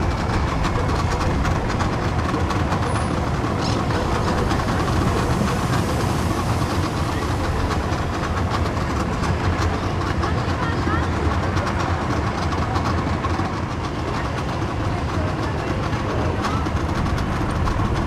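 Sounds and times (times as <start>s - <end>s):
boat engines idling: 0.0s - 18.0s.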